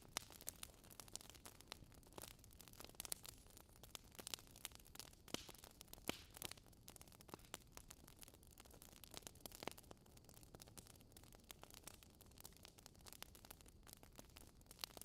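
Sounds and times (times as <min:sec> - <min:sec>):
faint fire hiss: 0:00.0 - 0:15.0
logs crackling in fireplace: 0:00.0 - 0:15.0.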